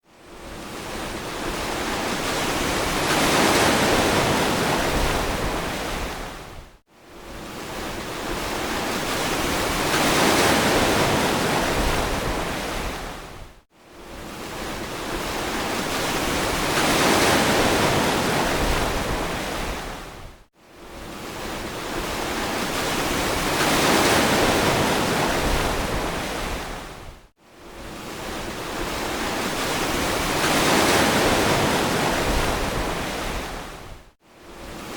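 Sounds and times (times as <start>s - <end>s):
ocean waves on a beach: 0.0s - 34.9s.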